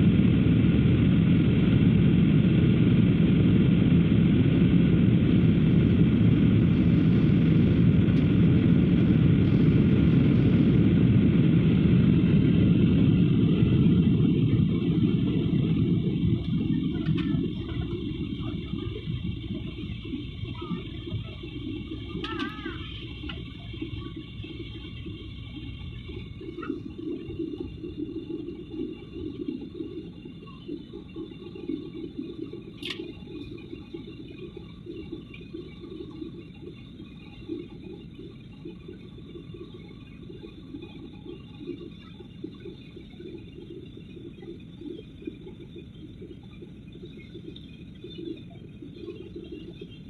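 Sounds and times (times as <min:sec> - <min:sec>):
jet engines and airflow rumble: 0:00.0 - 0:50.0
low fluttering: 0:00.0 - 0:50.0.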